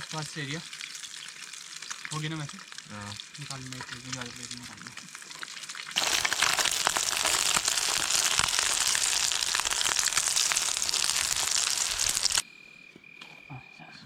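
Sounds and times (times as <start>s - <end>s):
eggs frying in hot oil: 0.0s - 12.4s.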